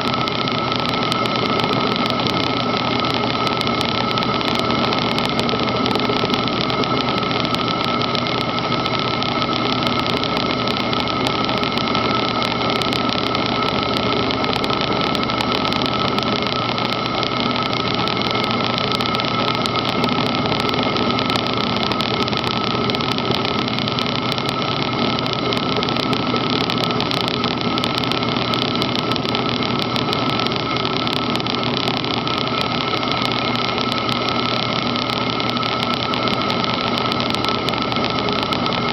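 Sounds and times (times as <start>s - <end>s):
high-pitched cutting whine: 0.0s - 38.9s
milling machine running: 0.0s - 38.9s.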